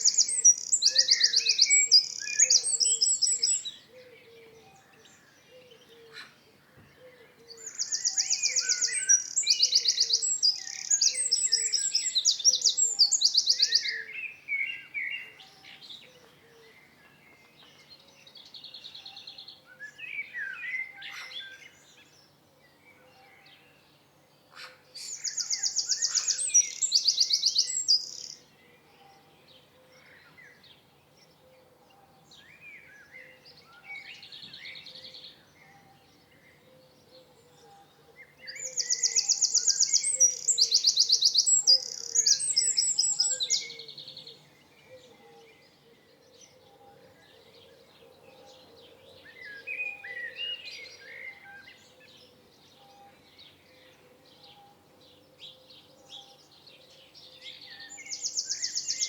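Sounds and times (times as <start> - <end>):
birds chirping: 0.0 - 23.8, 24.4 - 59.0.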